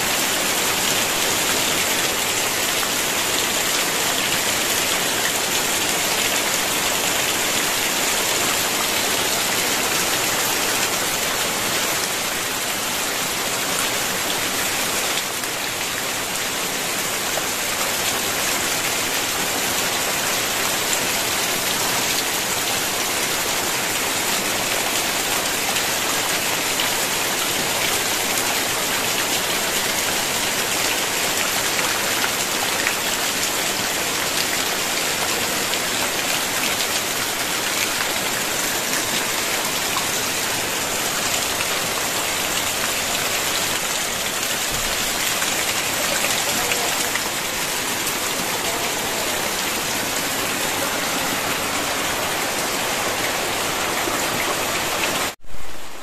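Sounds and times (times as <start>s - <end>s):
heavy rain on roofs and foliage: 0.0s - 56.0s
water streaming off eaves: 0.0s - 56.0s.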